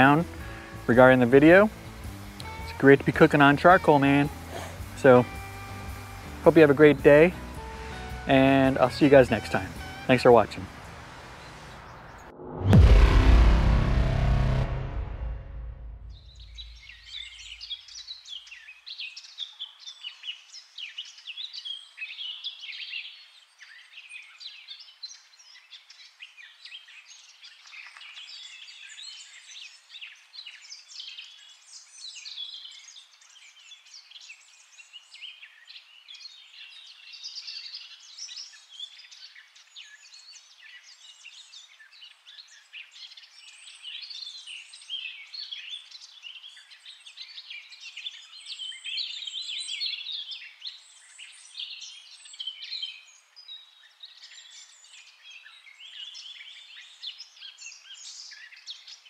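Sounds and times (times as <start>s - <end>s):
songbirds chirping and singing: 0.0s - 12.3s, 16.3s - 59.0s.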